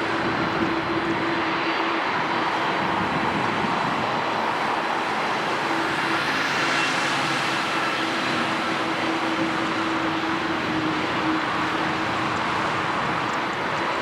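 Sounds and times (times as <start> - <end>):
jet engine rushing and whine: 0.0 - 14.0.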